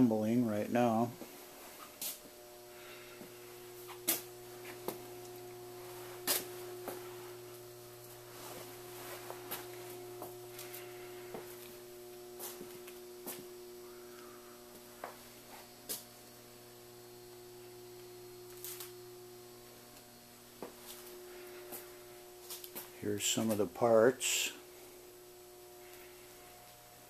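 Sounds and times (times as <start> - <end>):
faint electrical mains hum: 0.0 - 27.0.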